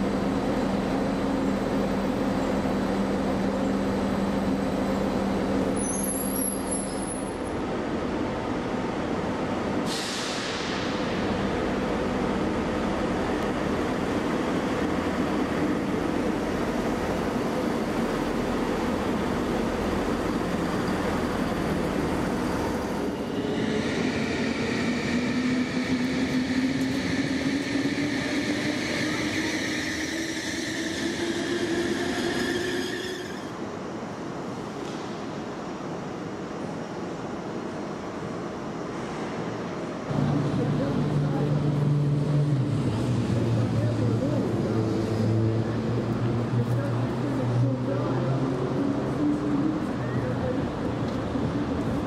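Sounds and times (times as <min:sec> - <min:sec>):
electric train high whine: 0:00.0 - 0:34.7, 0:40.1 - 0:52.0
diesel railcar engine droning: 0:00.0 - 0:52.0
station hall background noise: 0:00.0 - 0:52.0.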